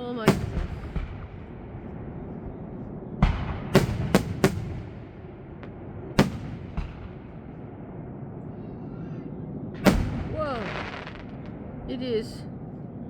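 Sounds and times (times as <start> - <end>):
fireworks bangs: 0.0 - 8.1, 9.7 - 12.5
low rumble: 0.0 - 13.0.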